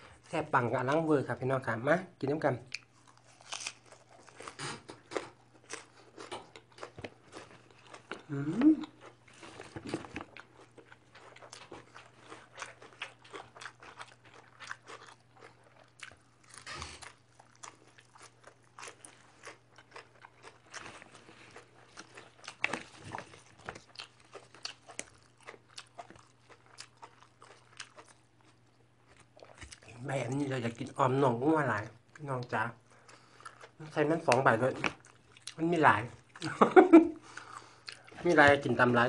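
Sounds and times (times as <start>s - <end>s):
person chewing crisp greens: 2.6s - 39.0s.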